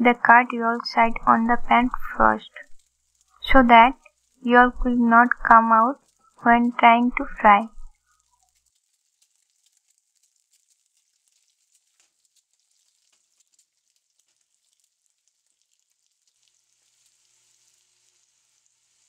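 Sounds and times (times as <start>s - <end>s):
eggs sizzling in oil: 0.1s - 19.0s.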